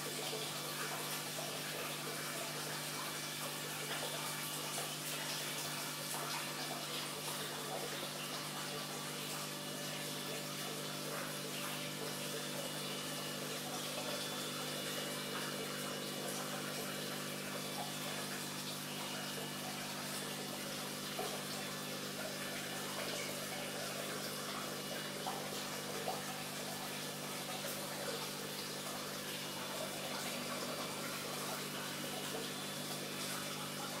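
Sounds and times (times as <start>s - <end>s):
filter pump humming: 0.0s - 34.0s
running water: 0.0s - 34.0s.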